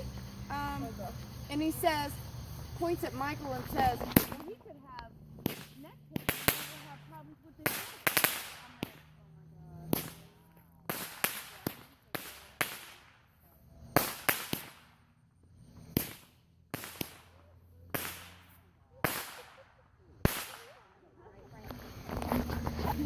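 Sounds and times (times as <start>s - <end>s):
fireworks bangs: 1.5s - 15.2s, 15.8s - 22.4s.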